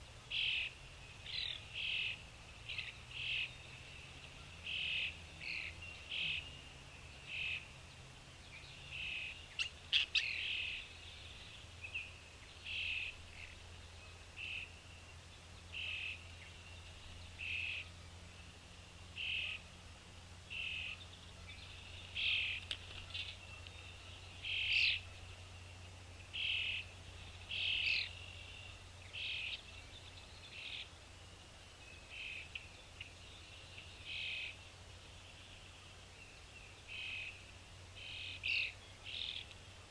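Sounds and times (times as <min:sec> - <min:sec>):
bird chirping: 0:00.0 - 0:19.7, 0:20.4 - 0:39.9
faint steady low hum: 0:00.0 - 0:39.9.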